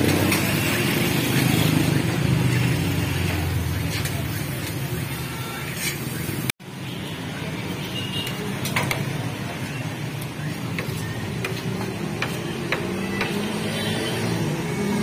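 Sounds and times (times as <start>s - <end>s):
food stall rumble and hiss: 0.0s - 15.0s.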